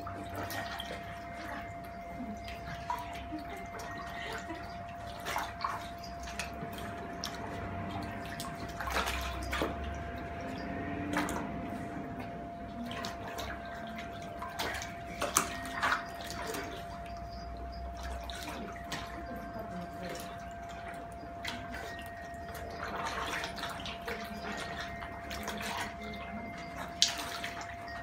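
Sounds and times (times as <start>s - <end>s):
faint steady hum: 0.0s - 28.0s
otters splashing in water: 0.0s - 28.0s
water sloshing against plastic: 0.0s - 28.0s.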